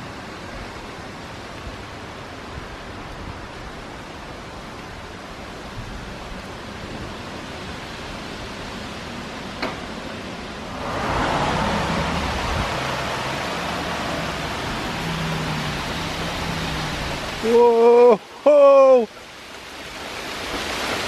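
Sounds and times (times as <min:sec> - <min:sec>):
rushing wind: 0:00.0 - 0:21.0.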